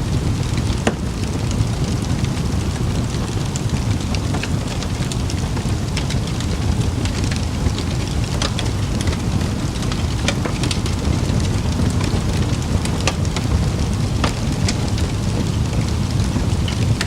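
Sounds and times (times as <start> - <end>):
campfire popping and snapping: 0.0 - 17.0
fire low rumble: 0.0 - 17.0.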